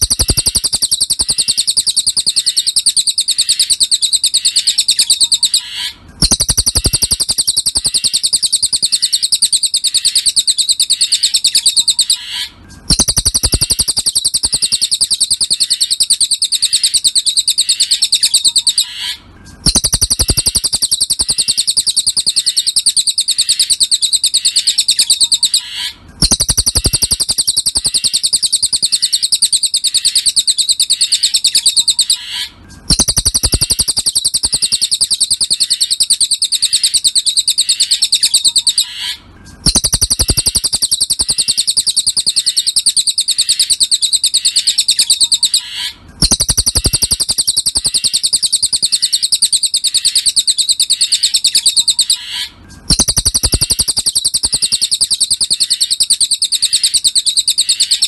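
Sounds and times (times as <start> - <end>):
songbird chirping rapidly: 0.0 - 58.0.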